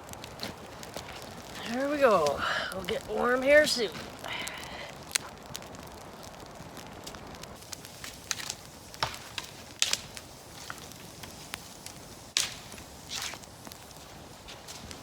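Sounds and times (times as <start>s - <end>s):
campfire crackling: 0.0s - 15.0s
fire popping: 0.0s - 15.0s
low fire hiss: 0.0s - 15.0s.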